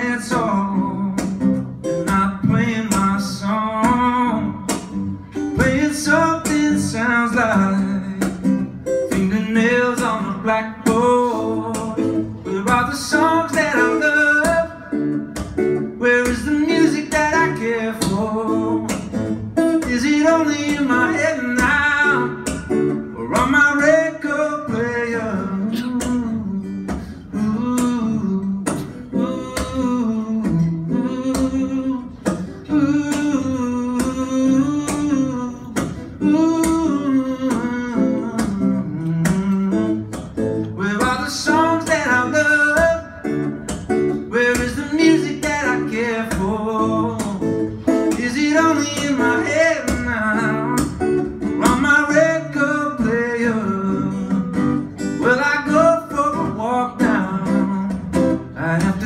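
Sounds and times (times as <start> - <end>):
man singing: 0.0 - 59.0
strummed acoustic guitar: 0.0 - 59.0.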